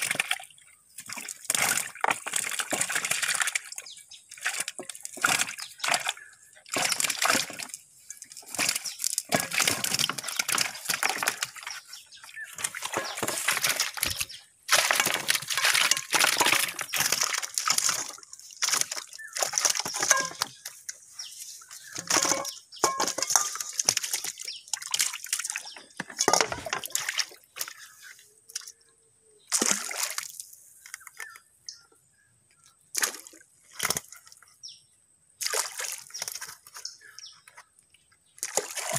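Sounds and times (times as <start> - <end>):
water sloshing and splashing: 0.0 - 28.8, 29.5 - 31.9, 32.7 - 34.6, 35.4 - 38.9.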